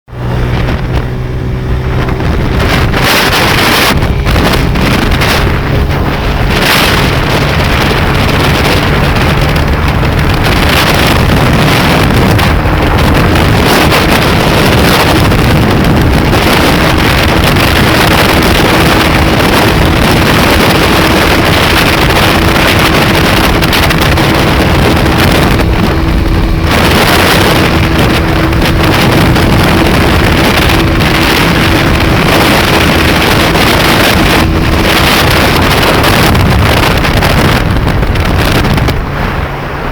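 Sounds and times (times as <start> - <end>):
motorcycle engine at high revs: 0.1 - 39.9
wind rush on microphone: 0.1 - 39.9.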